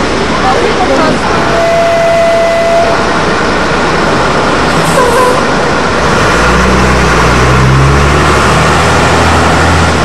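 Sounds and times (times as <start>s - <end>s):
street noise: 0.0s - 10.0s
trolleybus drawing up: 0.0s - 10.0s.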